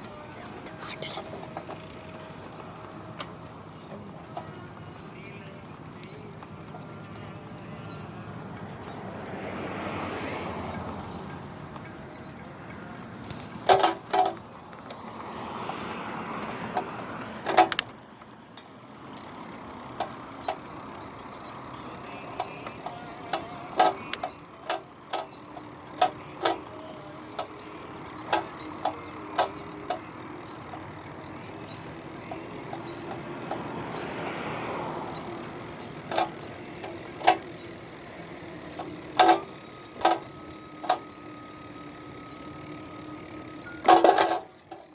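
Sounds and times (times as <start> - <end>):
road and traffic noise: 0.0 - 44.9
vehicles passing: 0.0 - 44.9.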